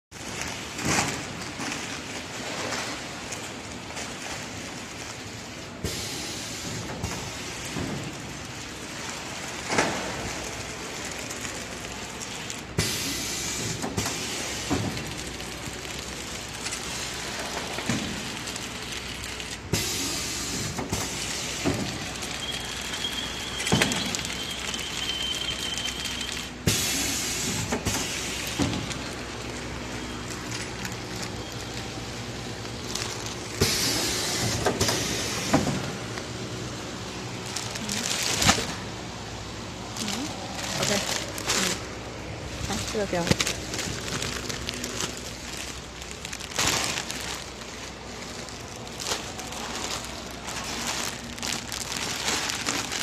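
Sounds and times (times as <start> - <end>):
packing machine running: 0.1 - 53.0.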